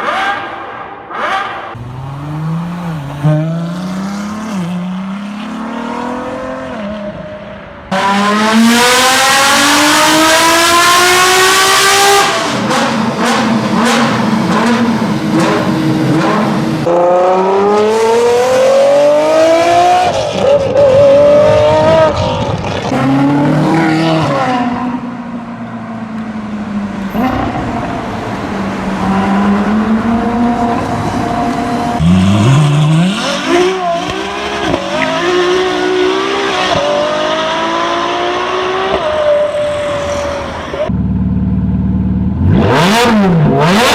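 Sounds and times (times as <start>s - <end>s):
sports car engines revving: 0.0s - 43.9s.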